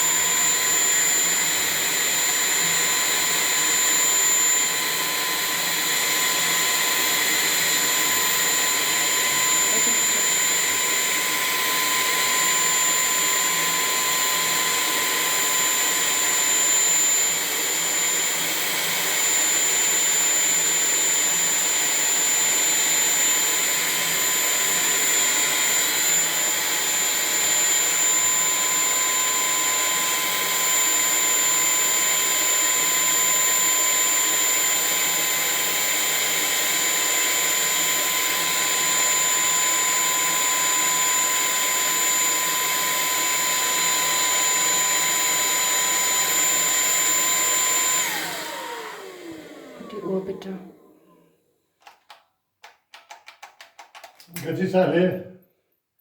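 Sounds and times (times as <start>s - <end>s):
vacuum cleaner running: 0.0s - 52.1s.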